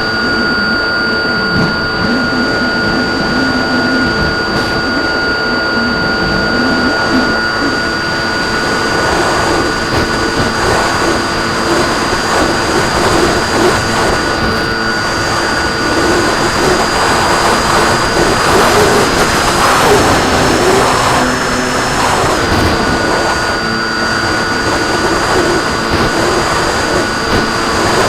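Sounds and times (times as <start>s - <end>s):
model airplane motor whine: 0.0s - 28.0s
rushing wind noise: 0.0s - 28.0s.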